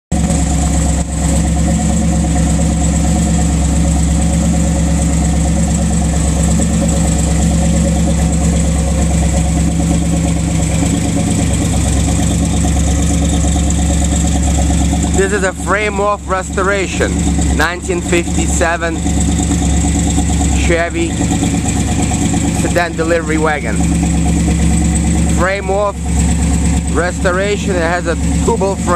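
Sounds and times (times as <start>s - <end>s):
supercharged engine idling: 0.1s - 28.9s.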